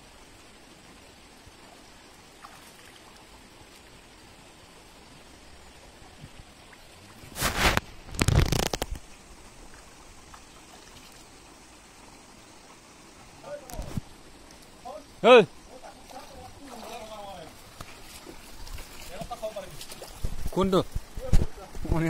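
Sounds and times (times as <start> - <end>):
shallow stream running: 0.0 - 22.0.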